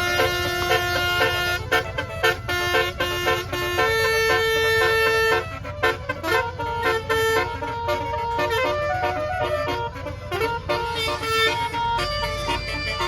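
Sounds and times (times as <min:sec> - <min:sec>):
bus horn playing a tune: 0:00.0 - 0:13.0
engine low rumble: 0:00.0 - 0:13.0.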